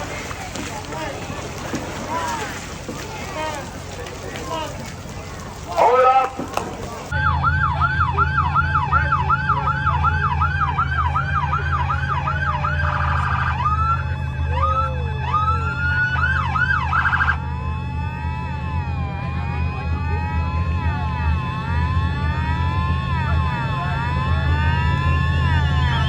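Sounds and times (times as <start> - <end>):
emergency sirens: 0.0 - 26.0
low engine rumble: 0.0 - 26.0.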